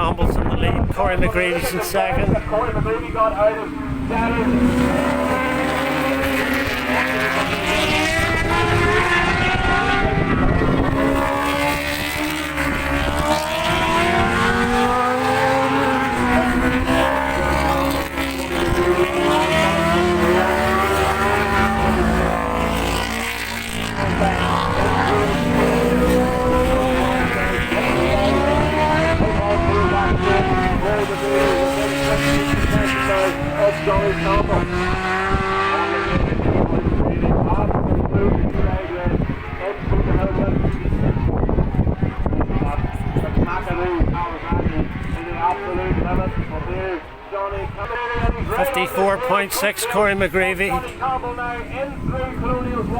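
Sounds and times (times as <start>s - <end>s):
racing motorcycle engines: 0.0s - 52.9s.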